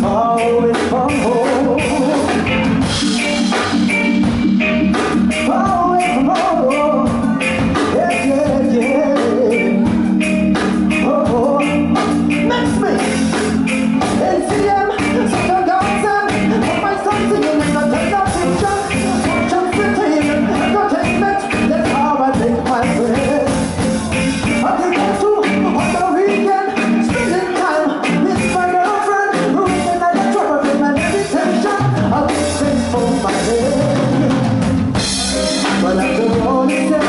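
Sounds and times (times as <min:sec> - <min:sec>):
man singing through pa: 0:00.0 - 0:02.7, 0:05.3 - 0:10.0, 0:10.9 - 0:37.0
live reggae band playing: 0:00.0 - 0:37.0.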